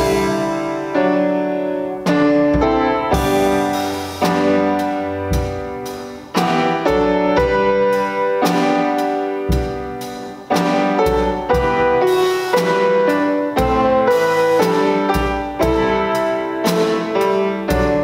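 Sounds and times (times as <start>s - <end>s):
piano playing slow hymn: 0.0s - 18.0s.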